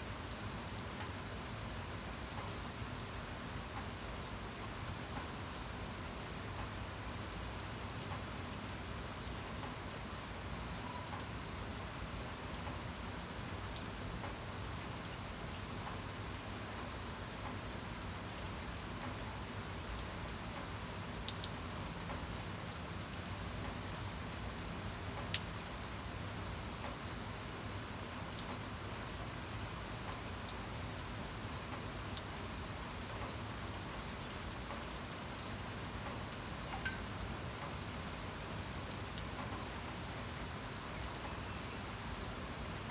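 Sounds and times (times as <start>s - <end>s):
steady rain falling: 0.0s - 42.9s
sharp raindrop ticks: 0.3s - 27.1s, 27.7s - 30.6s, 31.3s - 40.0s, 41.0s - 42.7s.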